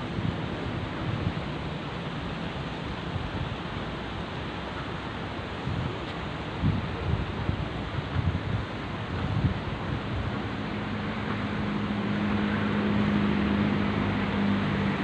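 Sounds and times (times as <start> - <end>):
wind on microphone: 0.0 - 3.8, 5.2 - 15.0
sea surf rushing: 0.0 - 15.0.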